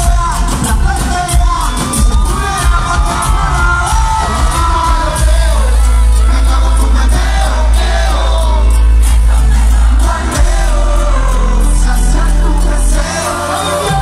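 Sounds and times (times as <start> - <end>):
crowd shouting: 0.0 - 14.0
heavy bass beat: 0.0 - 14.0
person singing: 0.0 - 14.0
reggaeton music over loudspeakers: 0.0 - 14.0.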